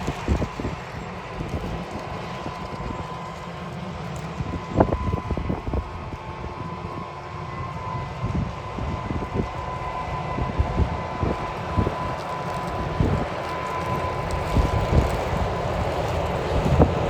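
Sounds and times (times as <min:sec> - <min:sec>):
tractor diesel engine running: 0:00.0 - 0:17.0
wind buffeting microphone: 0:00.0 - 0:17.0.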